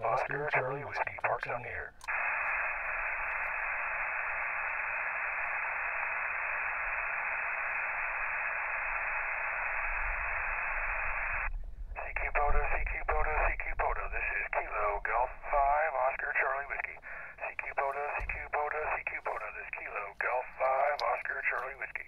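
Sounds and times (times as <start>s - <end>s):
radio receiver hiss: 0.0s - 22.0s.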